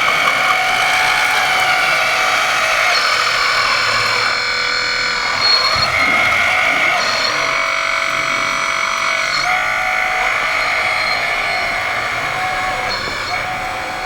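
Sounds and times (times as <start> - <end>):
electric motors and pumps whining: 0.0 - 14.0.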